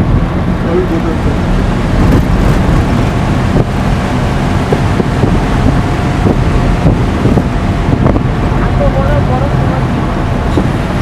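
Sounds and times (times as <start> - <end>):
engine droning: 0.0 - 11.0
wind buffeting microphone: 0.0 - 11.0.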